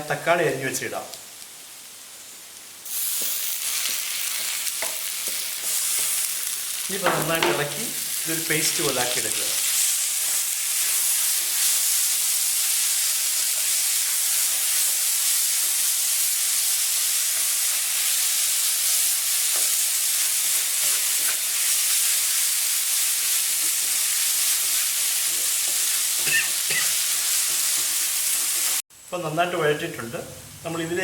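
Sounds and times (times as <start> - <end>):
food sizzling in oil: 1.0 - 29.1.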